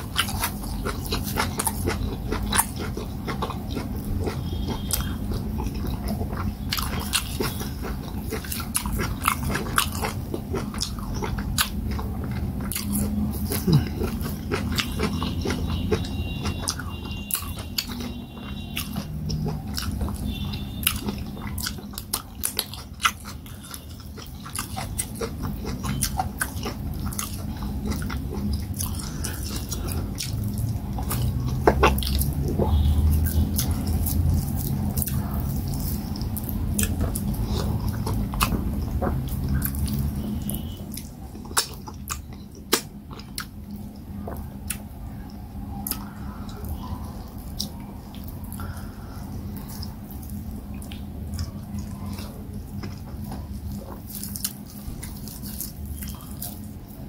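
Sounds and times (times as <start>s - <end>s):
mouth clicks and smacks: 0.0s - 57.0s
person chewing wetly: 0.0s - 57.0s.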